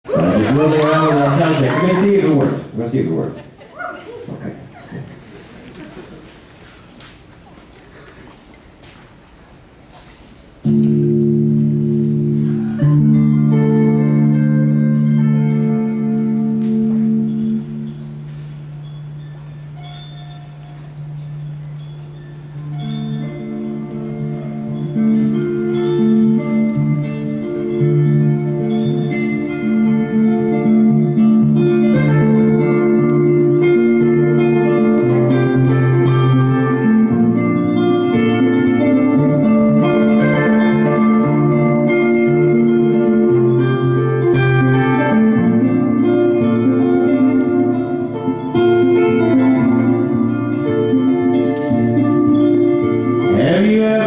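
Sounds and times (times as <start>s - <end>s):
amplified guitar chords: 10.6s - 54.0s
low bass line: 10.6s - 54.0s.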